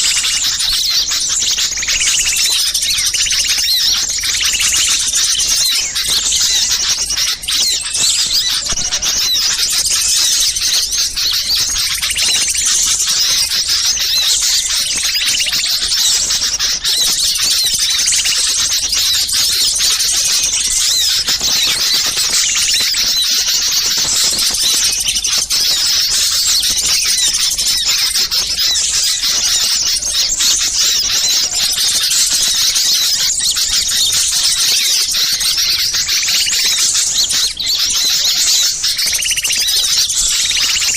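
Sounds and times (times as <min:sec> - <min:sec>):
small songbirds chirping and chattering: 0:00.0 - 0:40.9.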